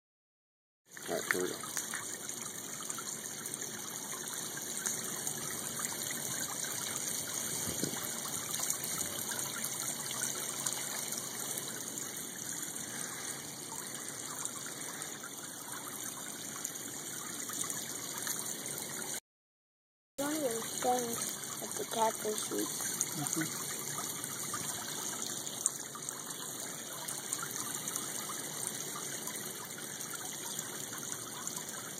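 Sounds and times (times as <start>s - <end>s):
running water trickling: 0.9s - 19.2s, 20.2s - 31.9s.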